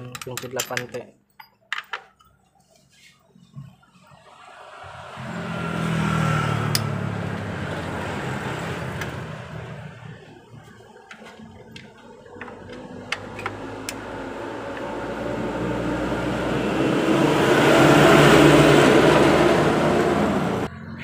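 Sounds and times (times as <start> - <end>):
road vehicle passing: 3.8 - 21.0.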